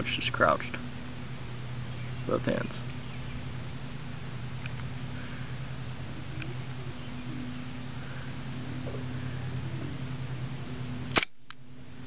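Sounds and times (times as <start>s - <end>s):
crickets trilling: 0.0s - 12.0s
low hum: 0.0s - 12.0s.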